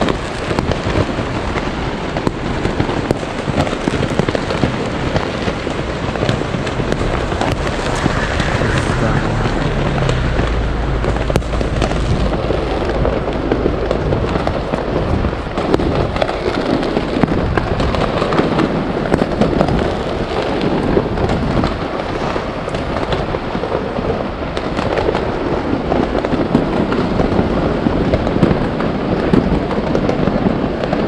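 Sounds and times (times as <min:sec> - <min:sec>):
fireworks crackling and popping: 0:00.0 - 0:31.0.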